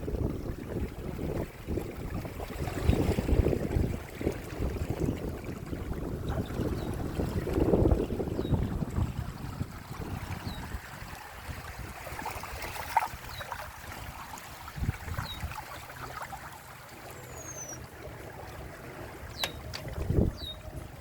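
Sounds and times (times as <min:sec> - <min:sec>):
water rushing along hulls: 0:00.0 - 0:21.0.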